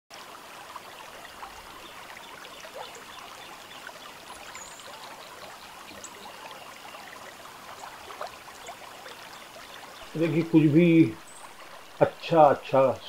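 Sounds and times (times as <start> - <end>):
stream babbling: 0.1 - 13.0.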